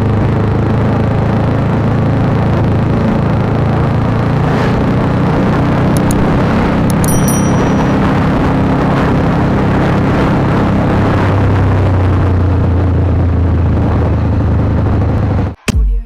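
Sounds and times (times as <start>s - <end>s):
motorcycle engine running: 0.0s - 15.3s
wind and road noise: 0.0s - 15.6s.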